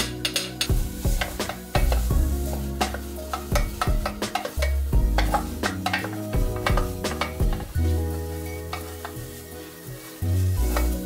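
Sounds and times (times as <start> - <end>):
spoon scraping and tapping pan: 0.0 - 9.4, 10.1 - 11.0
background music with bass line: 0.0 - 11.0
wooden spoon stirring in saucepan: 0.5 - 11.0.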